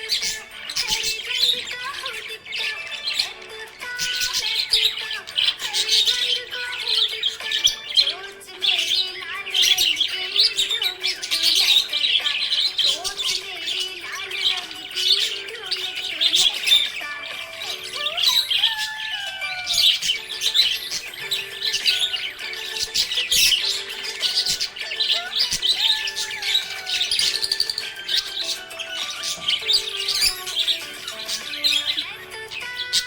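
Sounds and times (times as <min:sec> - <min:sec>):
budgerigars chirping: 0:00.0 - 0:33.0.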